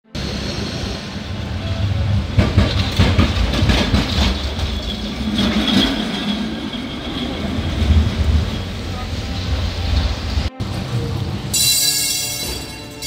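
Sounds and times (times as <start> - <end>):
tram low rumble: 0.0 - 13.0
tram wheels clattering over rails: 0.1 - 13.0.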